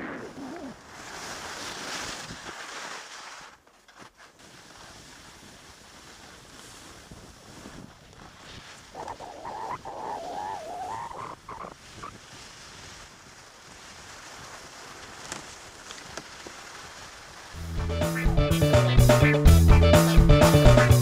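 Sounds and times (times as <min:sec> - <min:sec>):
skis hissing on snow: 0:00.0 - 0:03.6, 0:04.3 - 0:17.7.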